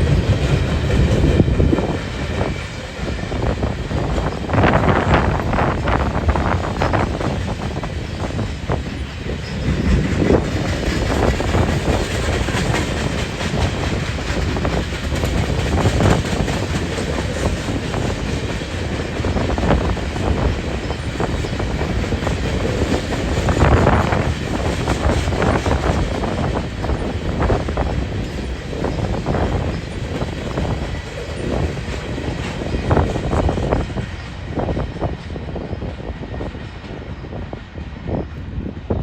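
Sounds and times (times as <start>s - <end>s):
wheels clacking over rail joints: 0.0s - 35.8s
train cars rumbling past: 0.0s - 39.0s.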